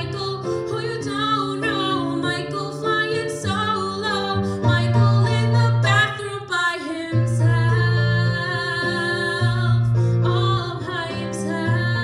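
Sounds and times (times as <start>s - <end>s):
piano chords: 0.0s - 12.0s
woman singing a pop ballad: 0.0s - 12.0s.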